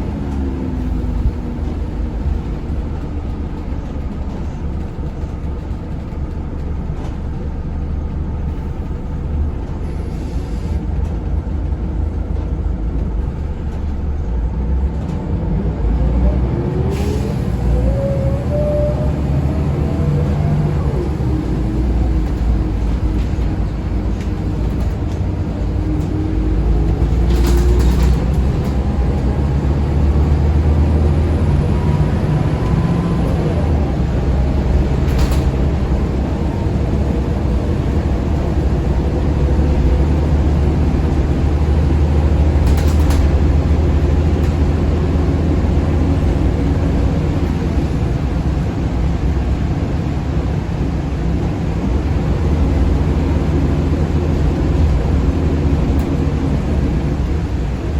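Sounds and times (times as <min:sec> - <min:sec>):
bus diesel engine running: 0:00.0 - 0:57.9.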